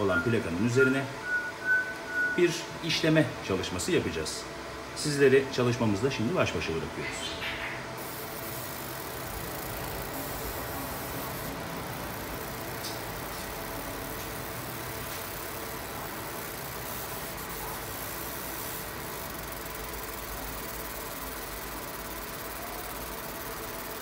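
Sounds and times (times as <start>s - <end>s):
laser marking machine humming: 0.0s - 24.0s.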